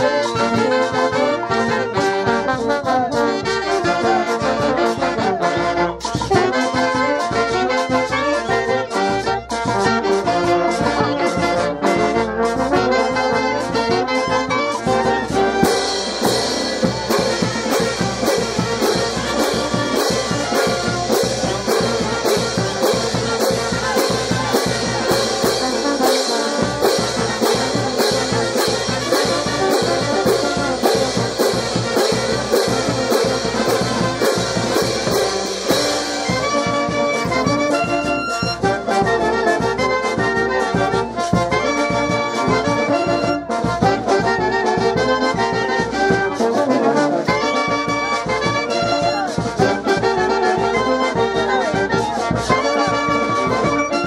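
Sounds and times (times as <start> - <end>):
brass band playing: 0.0 - 54.0
percussion beat: 0.0 - 54.0.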